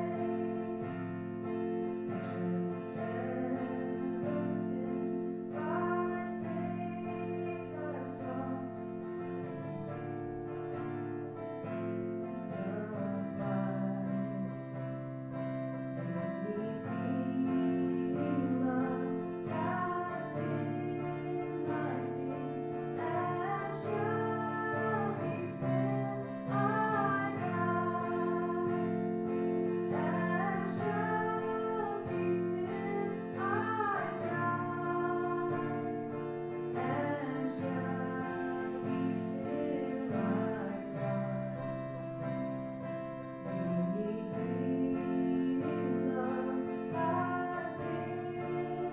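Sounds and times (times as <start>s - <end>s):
person singing: 0.0s - 10.3s, 11.7s - 48.9s
guitar chords: 0.0s - 48.9s.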